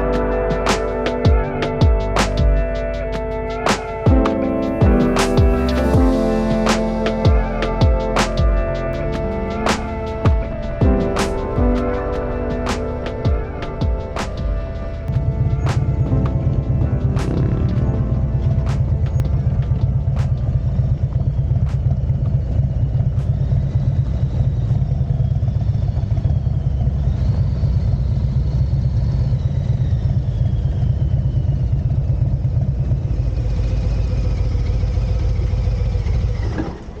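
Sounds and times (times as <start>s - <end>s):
motorcycle engine running: 1.2s - 37.0s.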